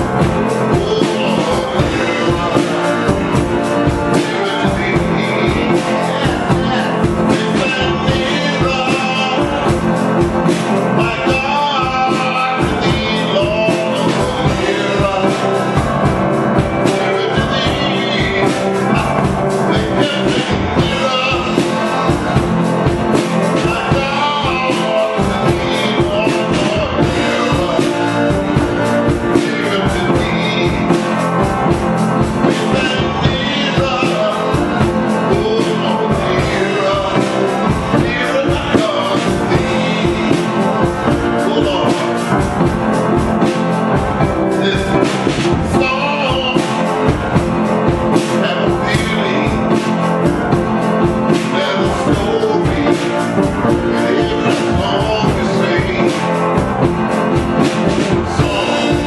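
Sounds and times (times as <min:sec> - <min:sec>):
band playing: 0:00.0 - 0:59.0
man singing gospel: 0:00.0 - 0:59.0.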